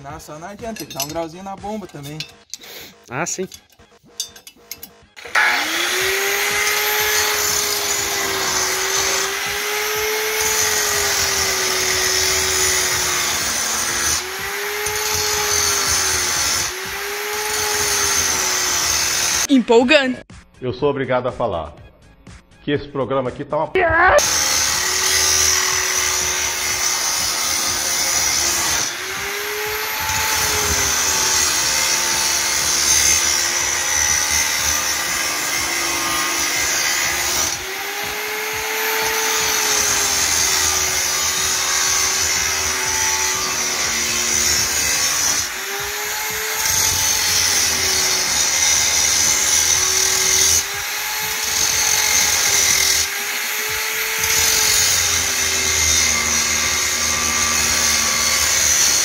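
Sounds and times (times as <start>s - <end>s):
angle grinder cutting metal: 0.0s - 19.5s, 24.2s - 59.0s.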